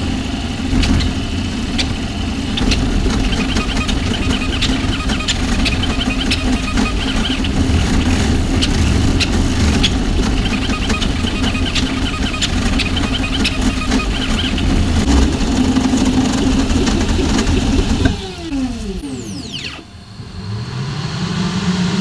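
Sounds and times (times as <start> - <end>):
three-d printer motors humming: 0.0 - 21.3.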